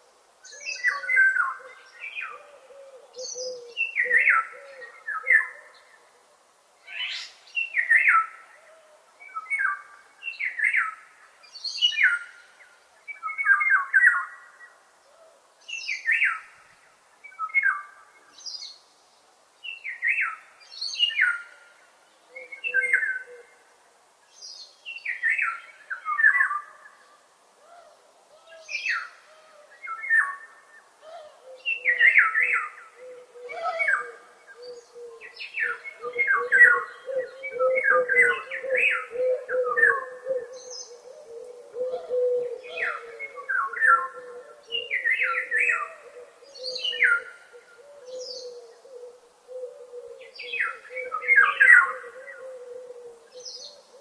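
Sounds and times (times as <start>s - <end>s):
bird song: 0.4s - 6.1s, 6.8s - 19.0s, 19.6s - 23.6s, 24.2s - 54.0s.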